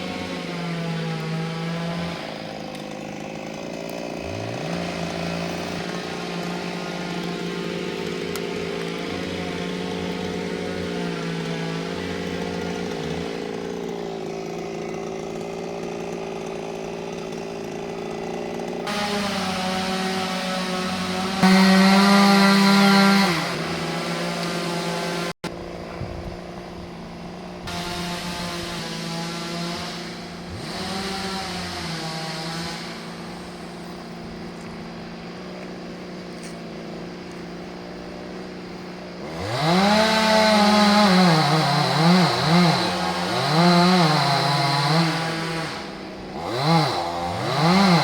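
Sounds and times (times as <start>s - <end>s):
chainsaw running: 0.0s - 48.0s.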